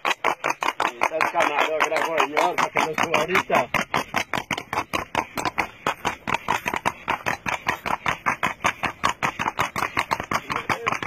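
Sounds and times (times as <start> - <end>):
horse hooves clattering on pavement: 0.0 - 11.0.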